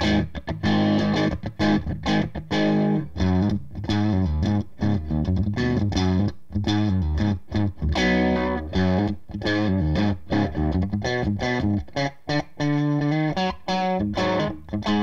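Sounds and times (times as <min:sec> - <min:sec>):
overdriven electric guitar riff: 0:00.0 - 0:15.0.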